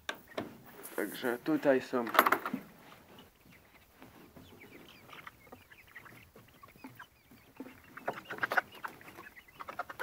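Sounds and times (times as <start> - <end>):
hens clucking faintly: 0.0 - 10.0.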